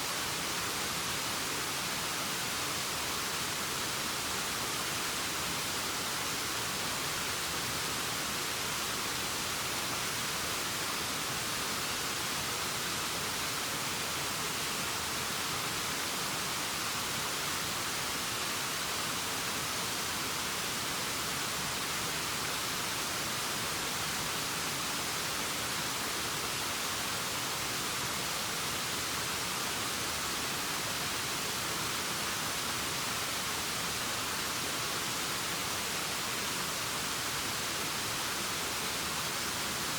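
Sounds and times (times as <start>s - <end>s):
steady rushing hiss: 0.0s - 39.9s.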